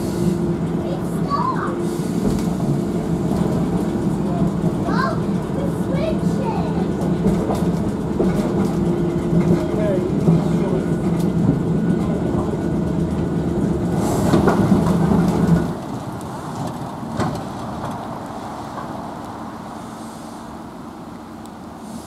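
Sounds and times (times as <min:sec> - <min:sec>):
tram motor hum: 0:00.0 - 0:22.0
tram wheel noise: 0:00.0 - 0:22.0.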